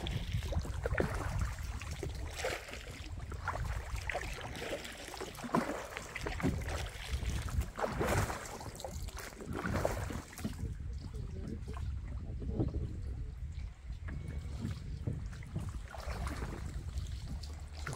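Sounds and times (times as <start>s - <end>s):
kayak paddles splashing water: 0.0s - 17.9s.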